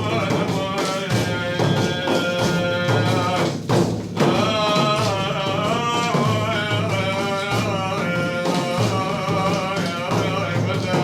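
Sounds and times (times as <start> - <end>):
man singing devotional song: 0.0 - 11.0
steady percussion beat: 0.0 - 11.0.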